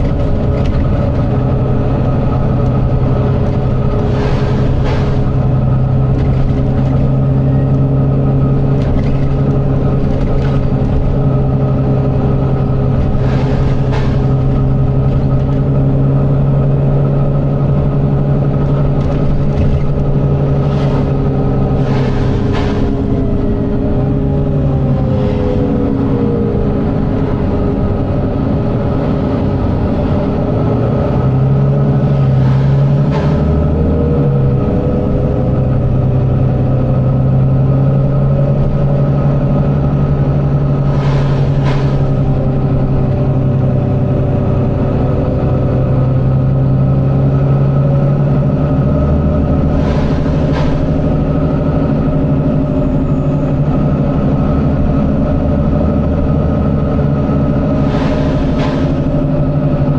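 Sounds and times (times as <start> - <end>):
bus diesel engine droning: 0.0 - 59.9.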